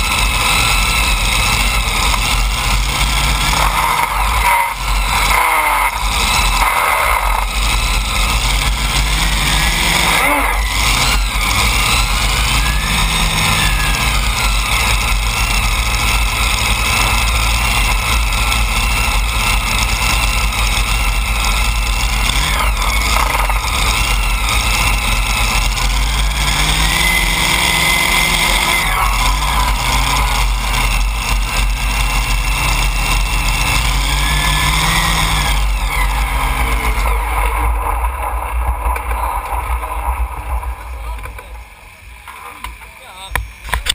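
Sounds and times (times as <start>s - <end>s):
engines idling and revving: 0.0s - 43.9s.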